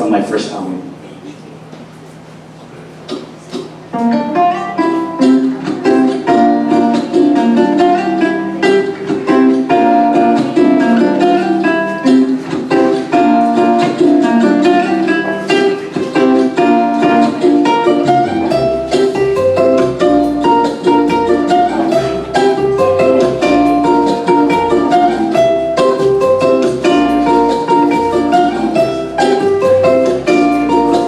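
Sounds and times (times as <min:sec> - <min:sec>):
backing track: 0:03.0 - 0:31.0
fingerstyle ukulele melody: 0:03.1 - 0:31.0.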